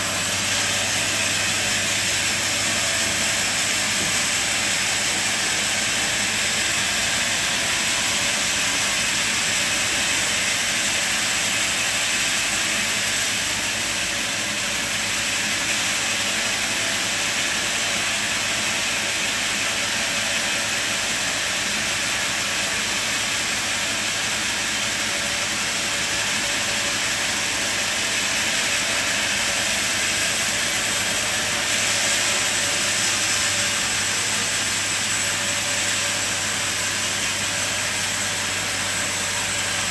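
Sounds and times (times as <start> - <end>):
sawmill loud hiss: 0.0 - 39.9.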